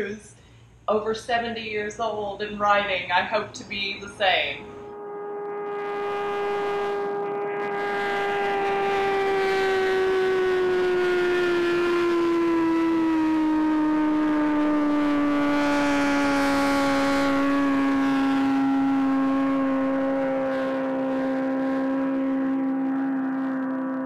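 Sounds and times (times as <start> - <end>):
motorcycle engine whine: 4.2 - 24.0.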